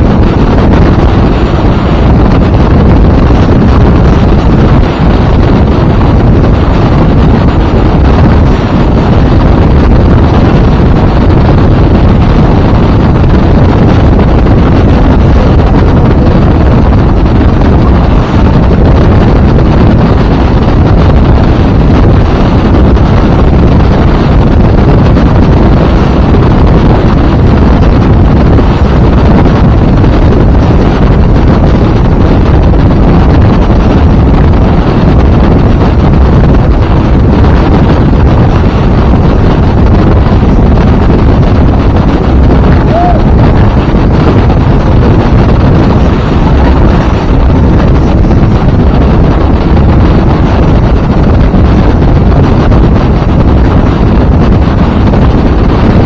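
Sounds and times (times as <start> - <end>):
boat engine: 0.0 - 52.0
wind buffeting microphone: 0.0 - 56.0.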